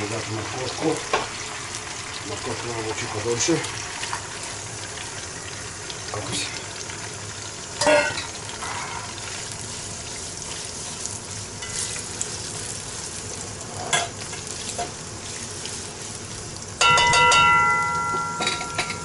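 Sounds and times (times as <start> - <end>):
carrots sizzling in oil: 0.0 - 19.0.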